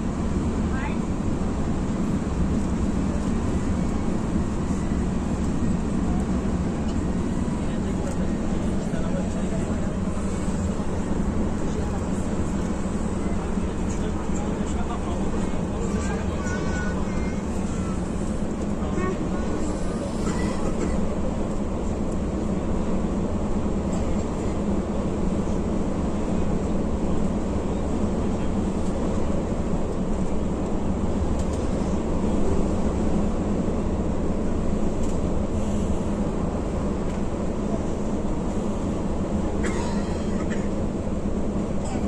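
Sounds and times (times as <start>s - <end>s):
bus engine drone: 0.0s - 42.0s
constant low hum: 0.0s - 42.0s
road noise: 0.0s - 42.0s.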